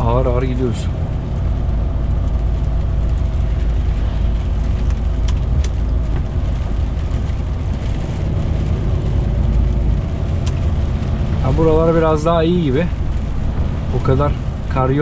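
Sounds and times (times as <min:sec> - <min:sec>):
truck engine and tyre drone: 0:00.0 - 0:15.0.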